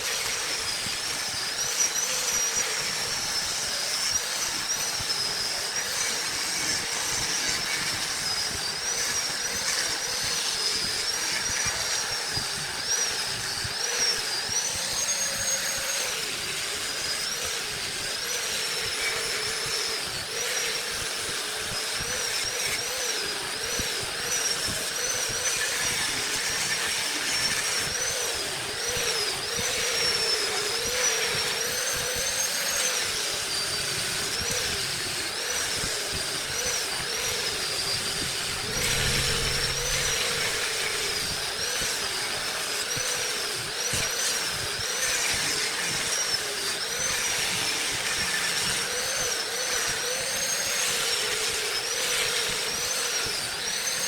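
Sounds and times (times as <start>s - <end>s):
tool cutting spinning wood: 0.0s - 52.0s
wood lathe motor whine: 0.0s - 54.0s.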